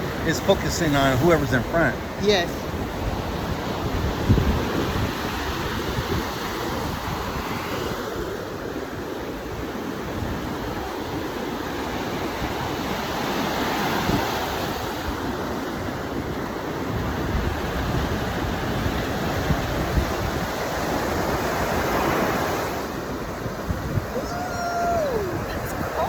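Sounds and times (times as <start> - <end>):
ocean surf breaking on shore: 0.0 - 26.0
wind buffeting microphone: 0.0 - 26.0.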